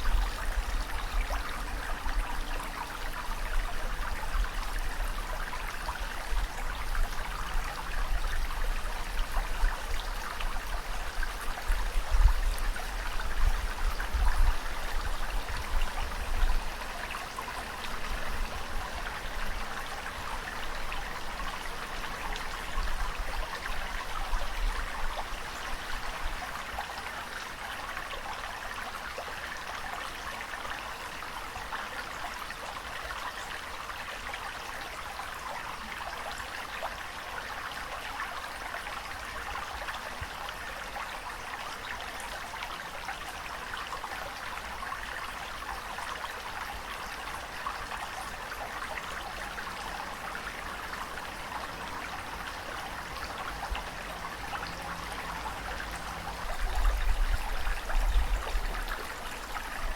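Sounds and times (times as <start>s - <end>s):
rushing trickling water: 0.0s - 59.9s.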